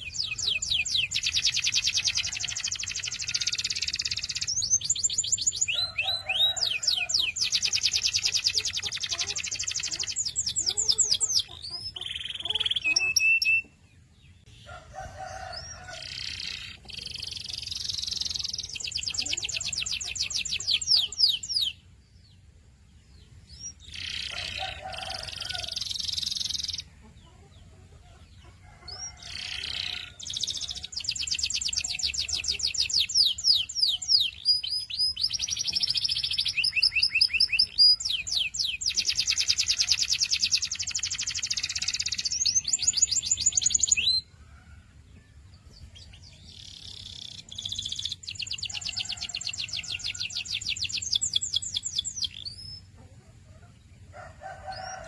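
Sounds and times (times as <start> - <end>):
canary singing: 0.0 - 13.8, 14.4 - 21.9, 23.2 - 44.4, 45.6 - 53.0.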